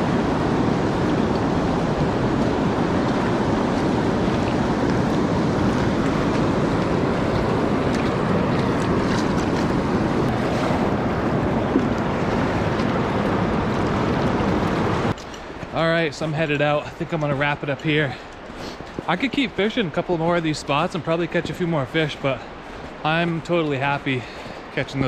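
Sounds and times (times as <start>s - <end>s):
river rushing over rapids: 0.0s - 25.0s.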